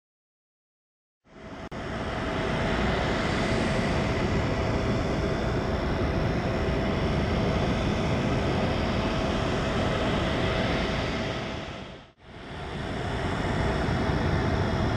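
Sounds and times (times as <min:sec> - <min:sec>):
jet turbine rumble and whine: 0:01.3 - 0:14.9.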